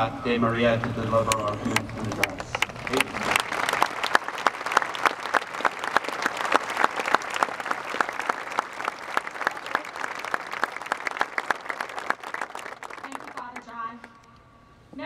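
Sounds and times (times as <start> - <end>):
crowd applauding: 0.8 - 14.3
sharp claps close by: 0.8 - 14.4.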